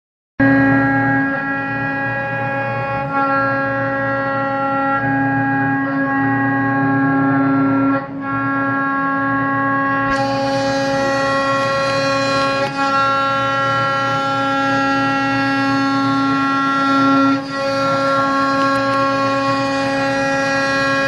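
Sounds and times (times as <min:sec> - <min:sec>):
milling machine whining drone: 0:00.4 - 0:21.0.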